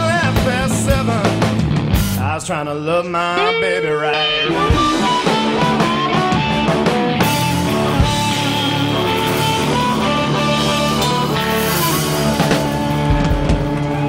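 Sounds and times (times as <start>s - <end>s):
drums and cymbals: 0.0s - 2.4s, 4.5s - 14.0s
electric guitar: 0.0s - 14.0s.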